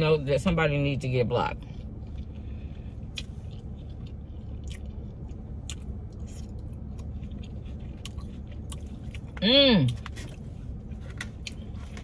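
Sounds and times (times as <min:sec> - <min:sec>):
steady low hum: 0:00.0 - 0:12.0
chewing with wet smacks: 0:00.5 - 0:12.0.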